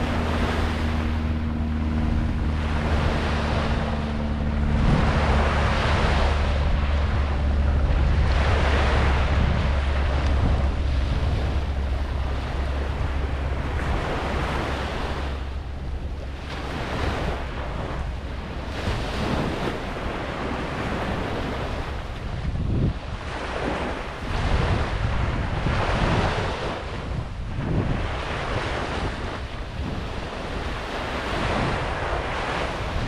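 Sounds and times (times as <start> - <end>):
ocean surf washing ashore: 0.0 - 33.0
wind rumbling on microphone: 0.0 - 33.0.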